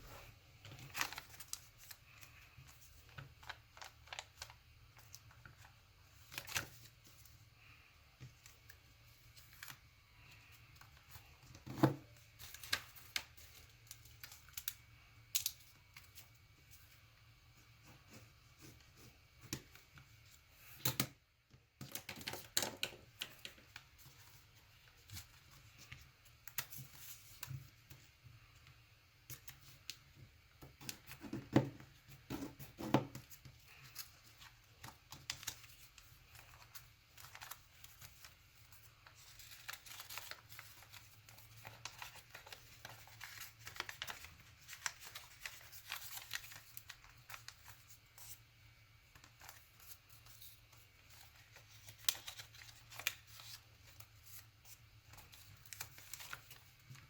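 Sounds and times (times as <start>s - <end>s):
paper rustling and creasing: 0.0s - 20.8s, 21.8s - 28.2s, 30.7s - 48.4s, 49.0s - 57.0s.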